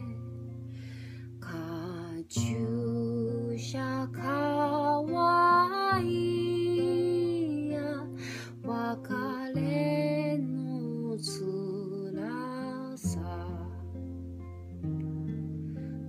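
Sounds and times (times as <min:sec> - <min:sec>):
slow sung melody: 0:00.0 - 0:16.0.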